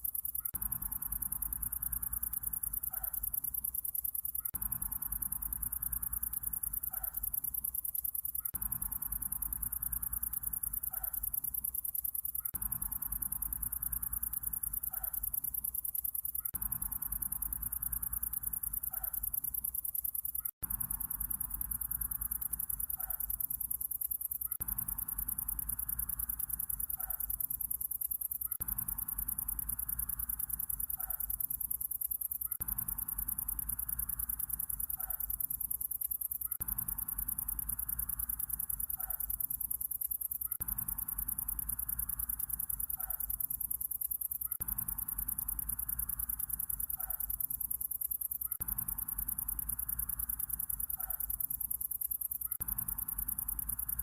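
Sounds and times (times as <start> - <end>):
crickets chirping: 0.0 - 54.0
faint short insect calls: 0.0 - 54.0.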